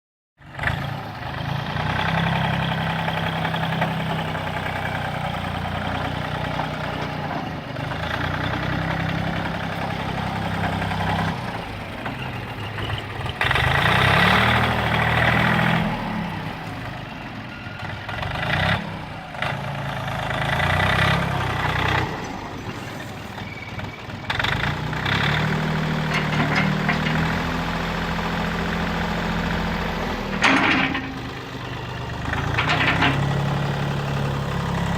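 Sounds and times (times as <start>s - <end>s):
tractor diesel engine running: 0.4s - 34.9s.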